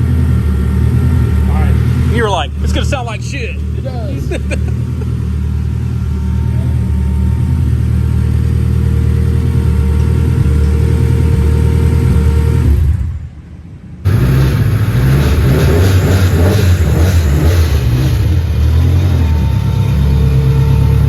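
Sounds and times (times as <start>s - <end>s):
car engine with deep exhaust note: 0.0s - 21.0s.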